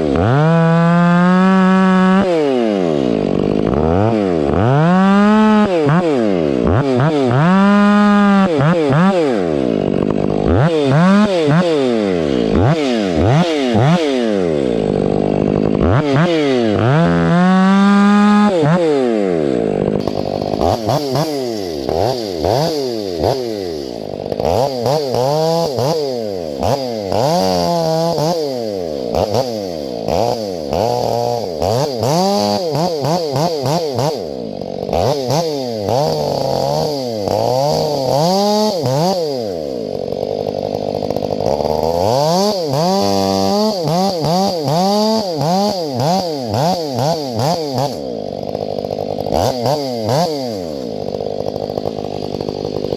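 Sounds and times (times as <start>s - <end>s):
chainsaw revving: 0.0s - 52.9s.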